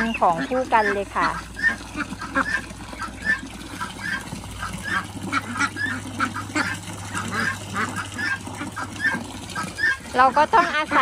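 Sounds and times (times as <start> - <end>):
ducks quacking: 0.0 - 11.0
ducks splashing in water: 0.0 - 11.0
water pouring: 0.0 - 11.0.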